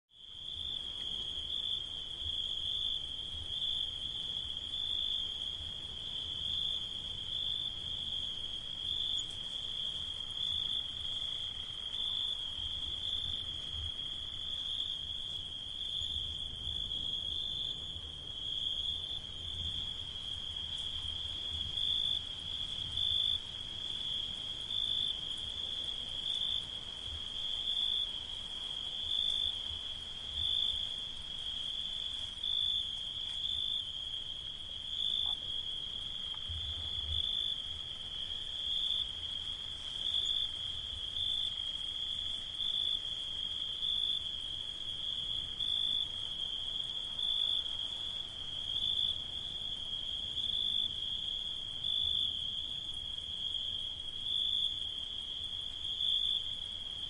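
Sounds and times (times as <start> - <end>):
cicadas buzzing: 0.2 - 57.0.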